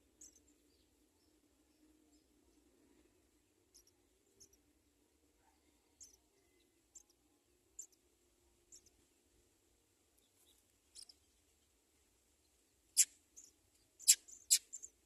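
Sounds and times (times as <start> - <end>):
sparrows chirping: 0.0 - 9.1, 10.0 - 15.0
faint low hum: 0.0 - 15.0.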